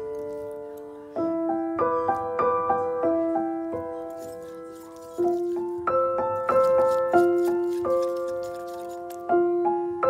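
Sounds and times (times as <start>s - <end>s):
slow gentle piano melody: 0.0s - 10.0s.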